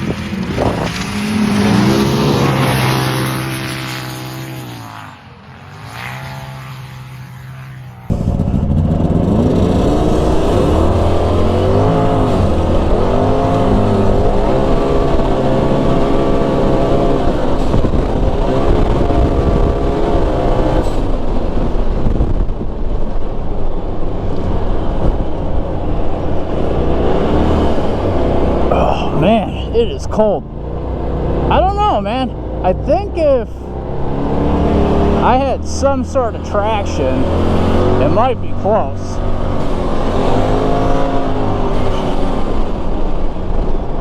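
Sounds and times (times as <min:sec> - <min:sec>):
off-road vehicle engine revving: 0:00.0 - 0:22.5, 0:23.9 - 0:44.0.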